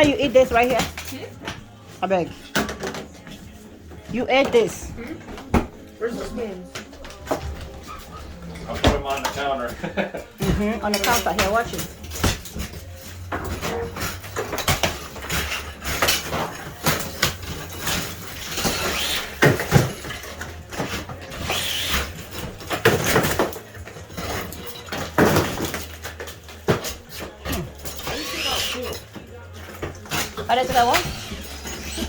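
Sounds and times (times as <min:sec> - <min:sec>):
objects clattering in a kitchen: 0:00.0 - 0:32.0.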